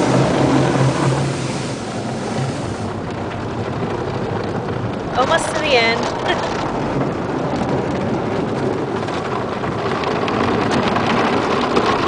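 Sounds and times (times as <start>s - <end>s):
water spraying on car body: 0.0s - 12.0s.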